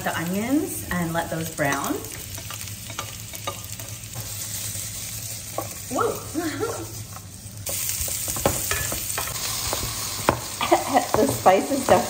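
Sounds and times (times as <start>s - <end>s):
onion sizzling in pan: 0.0s - 12.0s.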